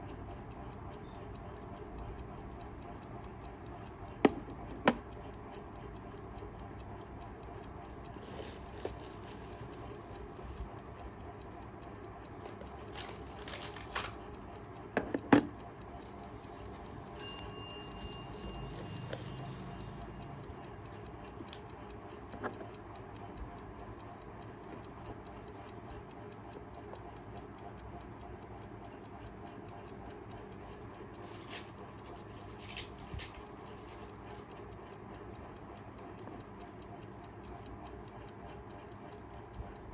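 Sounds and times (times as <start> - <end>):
alarm clock ticking: 0.0 - 39.9.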